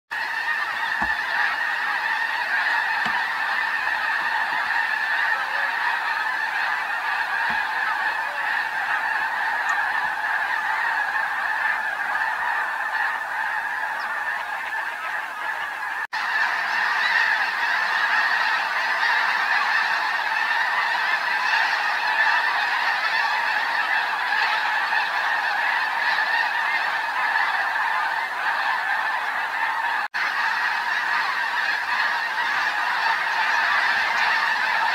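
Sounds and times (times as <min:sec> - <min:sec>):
flock of geese calling: 0:00.1 - 0:34.9.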